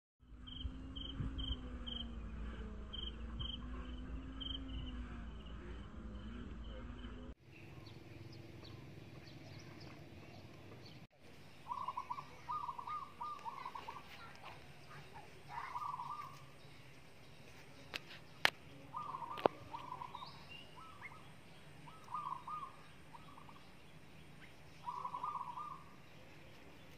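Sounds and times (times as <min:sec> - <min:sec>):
steady low hum: 0:00.2 - 0:26.9.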